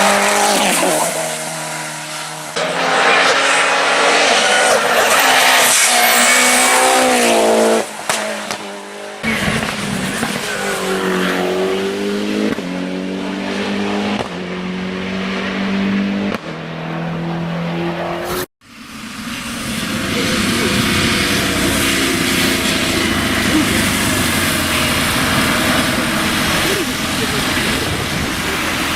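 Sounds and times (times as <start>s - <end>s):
race car engines accelerating: 0.0s - 28.9s.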